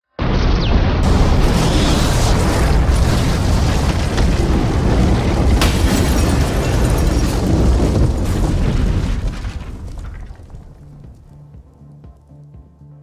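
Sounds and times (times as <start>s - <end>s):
explosion low rumble: 0.2s - 11.4s.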